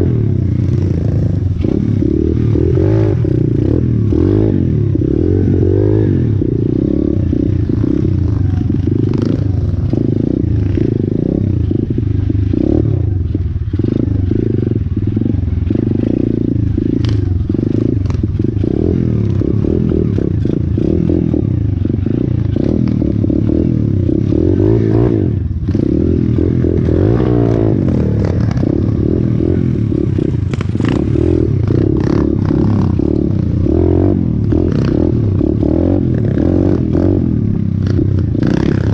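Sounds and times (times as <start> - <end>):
motorbike engine running: 0.0 - 38.9.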